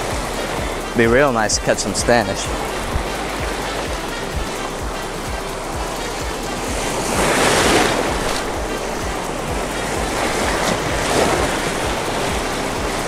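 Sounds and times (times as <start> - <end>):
background music with low beat: 0.0 - 13.0.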